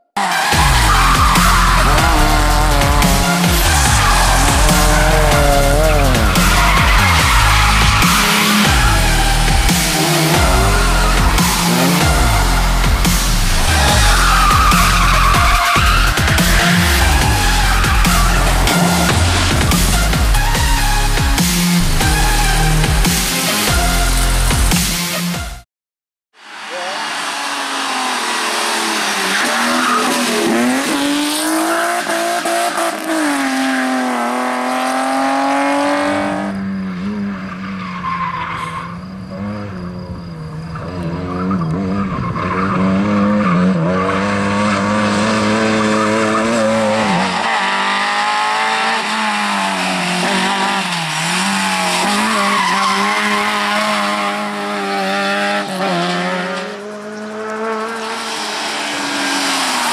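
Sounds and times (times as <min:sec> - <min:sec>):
tyres squealing and skidding: 0:00.0 - 0:25.5, 0:26.4 - 0:59.9
rally car engines revving: 0:00.2 - 0:25.2, 0:26.4 - 0:59.9.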